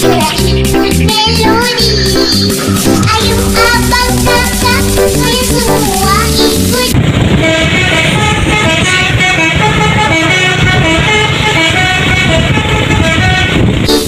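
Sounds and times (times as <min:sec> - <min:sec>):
engine and traffic rumble: 0:00.0 - 0:14.0
musical bus horn tune: 0:01.2 - 0:14.0.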